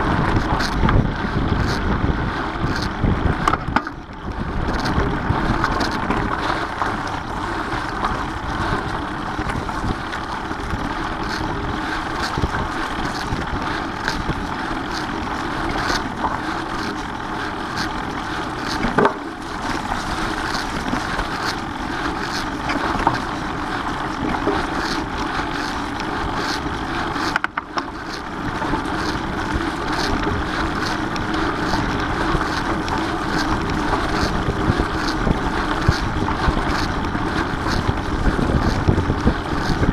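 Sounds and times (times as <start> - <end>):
bike clicks and rattles: 0.0 - 39.9
bike tyres rolling through leaves: 0.0 - 39.9
wind on microphone: 0.0 - 39.9.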